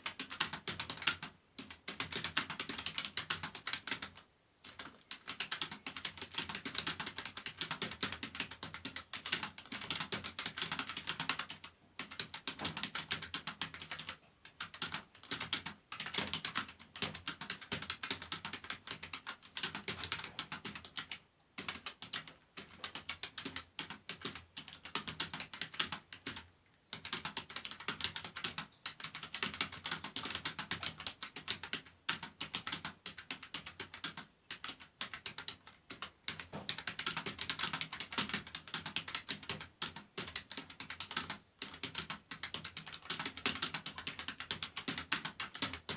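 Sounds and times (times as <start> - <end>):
fast typing on keyboard: 0.0 - 45.9.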